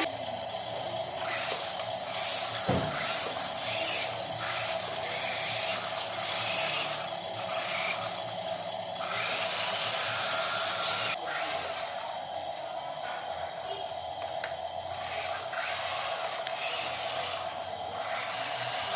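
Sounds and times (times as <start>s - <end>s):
electric motor whining: 0.0s - 12.9s, 14.0s - 18.9s.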